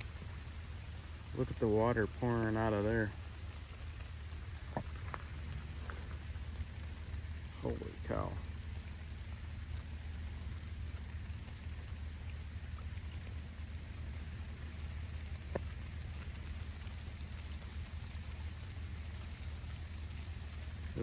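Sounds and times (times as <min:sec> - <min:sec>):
water pouring from drainage pipe: 0:00.0 - 0:21.0.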